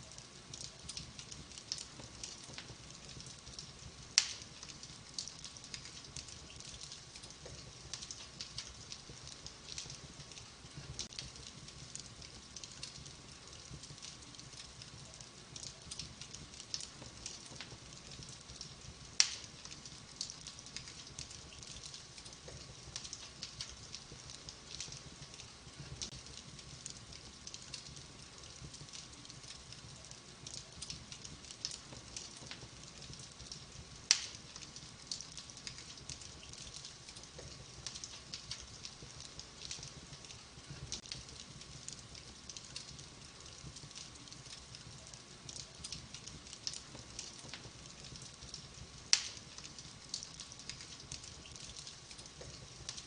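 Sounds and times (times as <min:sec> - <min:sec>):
wood fire crackling: 0:00.0 - 0:53.0
sharp fire pops: 0:00.1 - 0:53.0.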